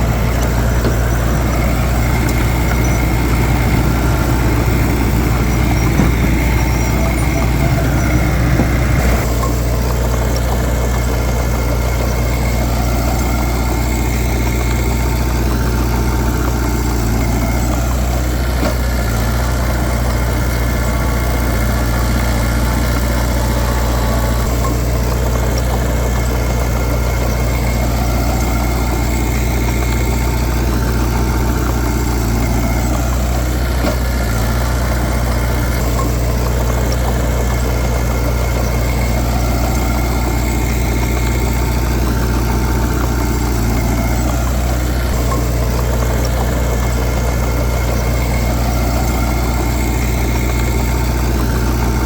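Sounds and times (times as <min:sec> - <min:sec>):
heavy diesel engine droning: 0:00.0 - 0:52.0.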